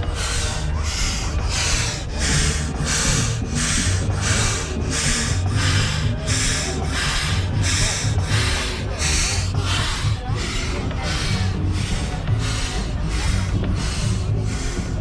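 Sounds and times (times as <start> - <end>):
low rumble: 0.0 - 15.0
steam engine chuffing: 0.0 - 15.0.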